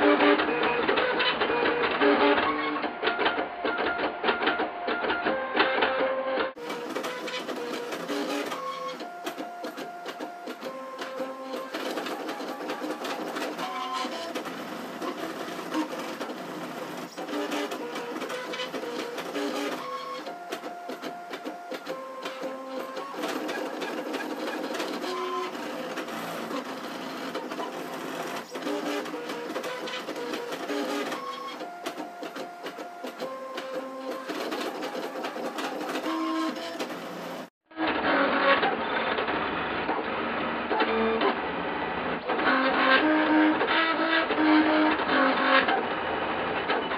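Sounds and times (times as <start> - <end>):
printer stepper motors whining: 0.0 - 46.9.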